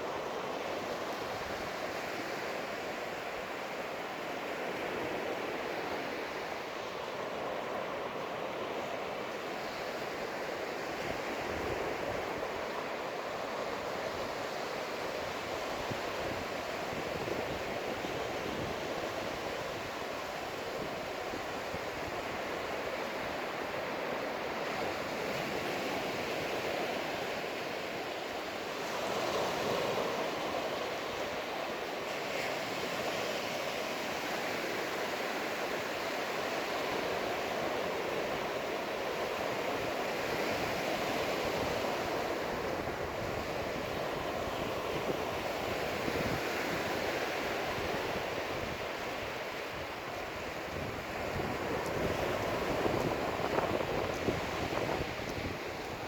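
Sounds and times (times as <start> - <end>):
ocean surf on sandy beach: 0.0 - 56.0.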